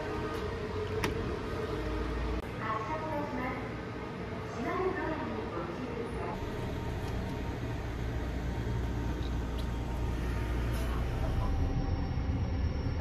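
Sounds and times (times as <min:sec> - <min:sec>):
train humming and rumbling: 0:00.0 - 0:13.0.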